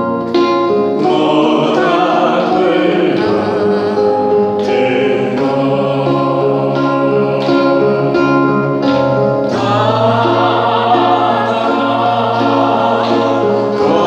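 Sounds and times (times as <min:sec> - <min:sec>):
group singing slow song: 0:00.0 - 0:14.0
instrumental accompaniment: 0:00.0 - 0:14.0.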